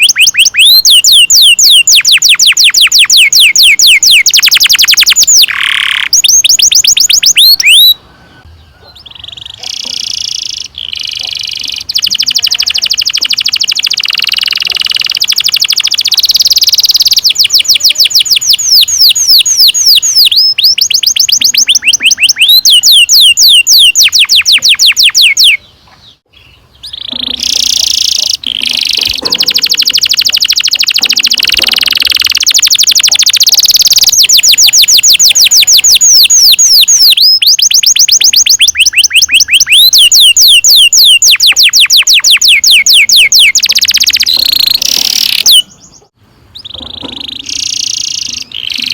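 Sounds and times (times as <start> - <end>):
canary singing trills: 0.0 - 48.9.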